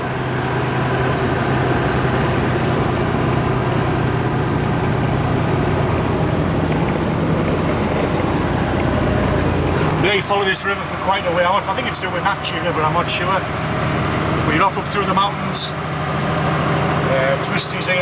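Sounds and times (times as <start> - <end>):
diesel engine drone: 0.0 - 18.0
road noise: 0.0 - 18.0.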